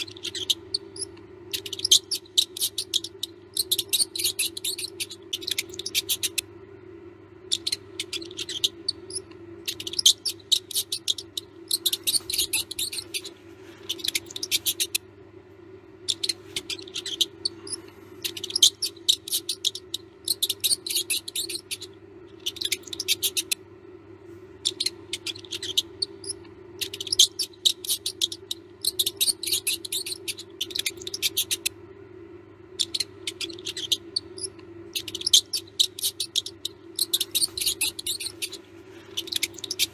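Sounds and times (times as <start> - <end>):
mouse squeaking: 0.0 - 6.6, 7.3 - 15.1, 15.9 - 23.6, 24.6 - 31.9, 32.6 - 39.9
steady low hum: 0.0 - 39.9.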